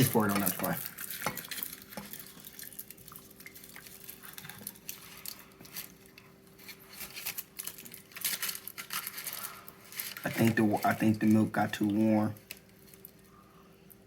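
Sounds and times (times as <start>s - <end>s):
milk pouring patters and crackles: 0.0s - 14.0s.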